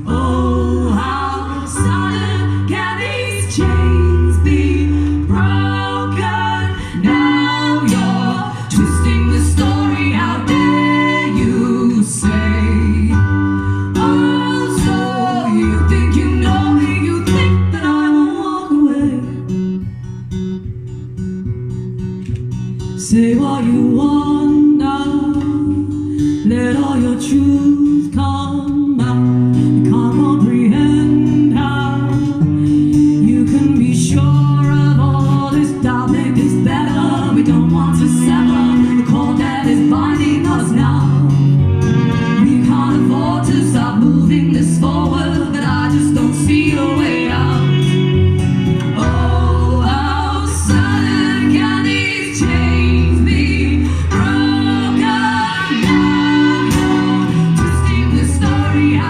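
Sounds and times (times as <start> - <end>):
person singing: 0.0 - 19.4, 23.1 - 59.0
strummed acoustic guitar: 0.0 - 59.0.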